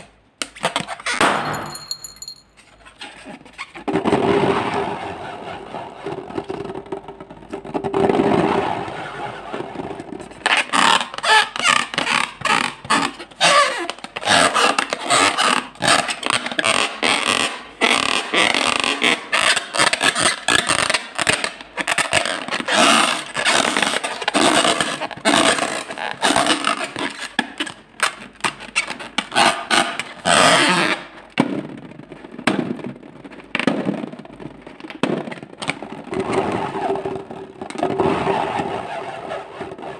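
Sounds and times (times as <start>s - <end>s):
rubber balloon squeaking: 0.5s - 1.3s, 2.9s - 4.2s, 4.9s - 31.2s, 35.8s - 39.9s.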